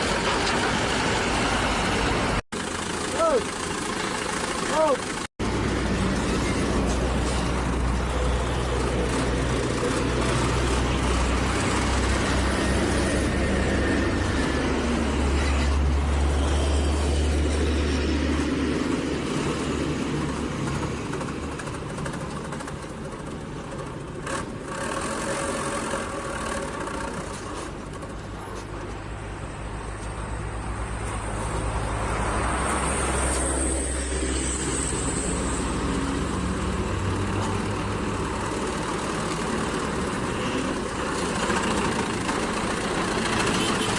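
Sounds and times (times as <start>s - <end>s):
diesel engines rumbling: 0.0s - 43.9s.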